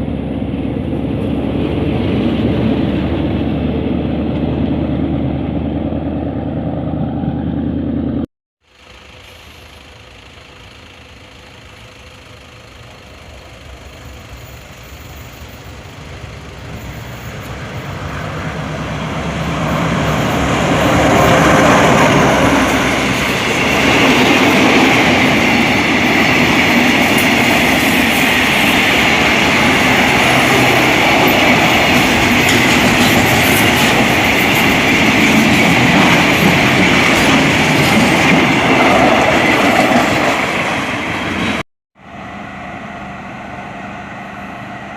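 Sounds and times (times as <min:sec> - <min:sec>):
diesel train passing: 0:00.0 - 0:44.9.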